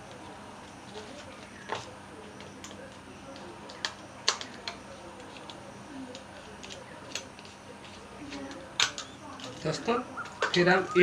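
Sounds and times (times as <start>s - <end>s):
fan parts clicking and tapping: 0.0s - 11.0s.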